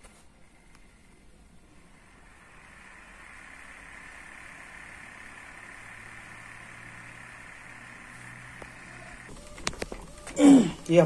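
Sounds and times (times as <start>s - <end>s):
inkjet printer whirring: 0.9s - 11.0s.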